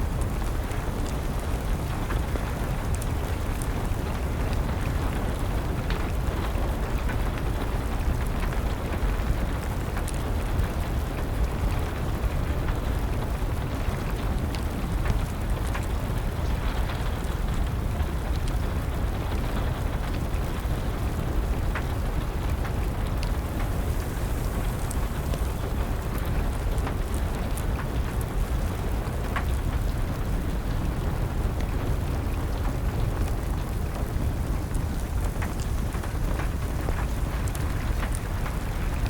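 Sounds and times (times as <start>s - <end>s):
crackling fire: 0.0s - 39.0s
steady rain: 0.0s - 39.0s.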